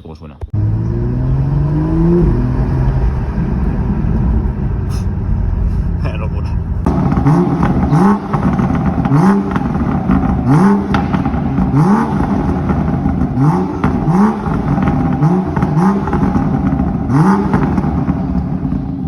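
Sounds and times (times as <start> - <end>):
exhaust crackling: 0.5 - 19.0
car engine revving: 0.6 - 19.0.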